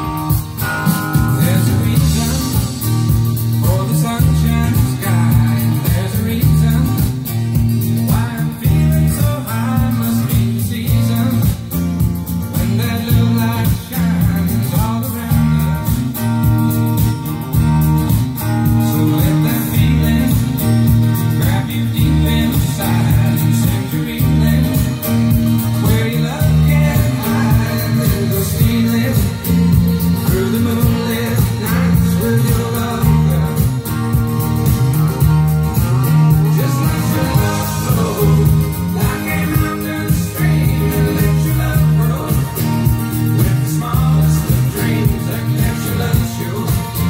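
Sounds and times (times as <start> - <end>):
heavy repeating bass line: 0.0 - 47.0
song with singing and guitar: 0.0 - 47.0.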